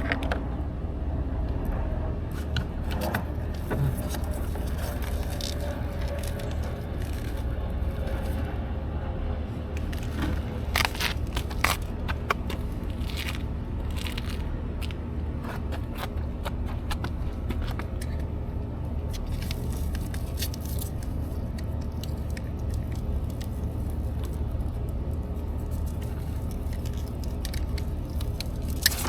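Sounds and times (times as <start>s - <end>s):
steady low hum: 0.0s - 29.0s
hands scraping and clicking wiring: 2.3s - 8.6s, 9.7s - 29.0s.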